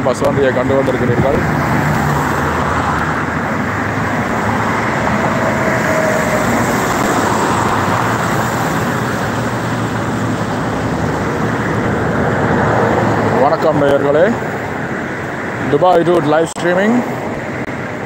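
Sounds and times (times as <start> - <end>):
cars driving past: 0.0 - 18.0.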